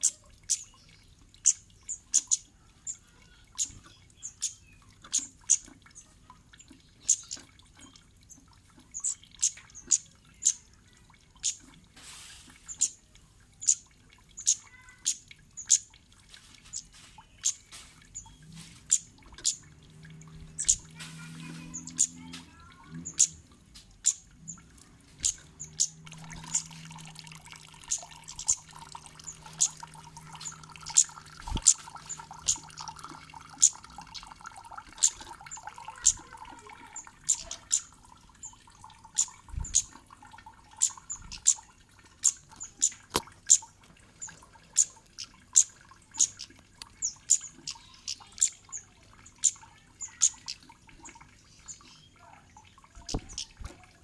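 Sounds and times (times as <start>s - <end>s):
bird high chirps: 0.0s - 10.6s, 16.7s - 19.7s, 20.4s - 23.4s, 24.0s - 34.4s, 35.0s - 40.0s, 40.7s - 52.2s.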